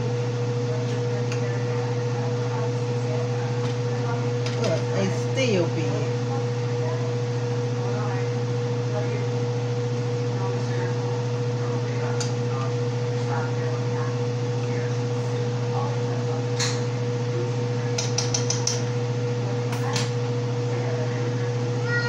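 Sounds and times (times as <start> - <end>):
appliance humming: 0.0 - 22.0.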